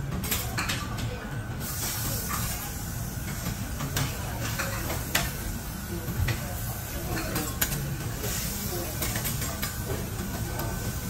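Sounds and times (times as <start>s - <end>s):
food sizzling on a griddle: 1.6s - 11.0s.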